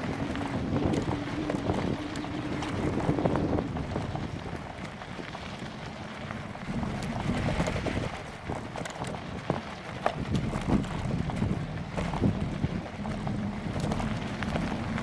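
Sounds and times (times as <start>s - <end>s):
bike rattling clicks: 0.0s - 15.0s
tyres rumbling on rough trail: 0.0s - 15.0s
wind buffeting microphone: 0.0s - 15.0s.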